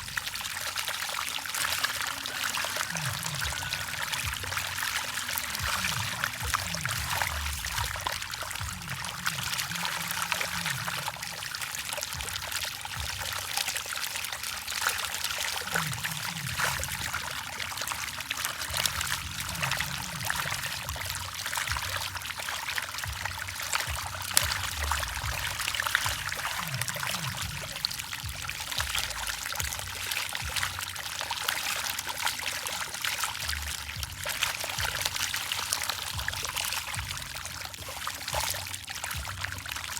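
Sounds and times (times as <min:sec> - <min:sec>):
fish splashing at water surface: 0:00.0 - 0:39.9.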